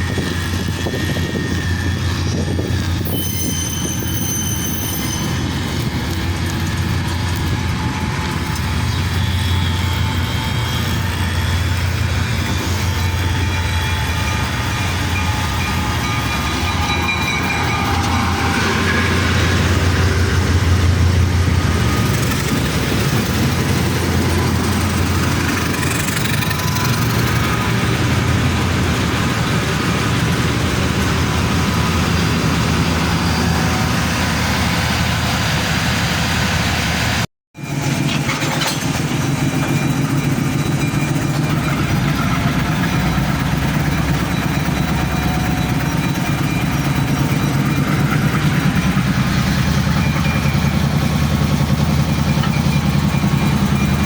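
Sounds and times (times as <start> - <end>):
locomotive diesel engines running: 0.0 - 54.0.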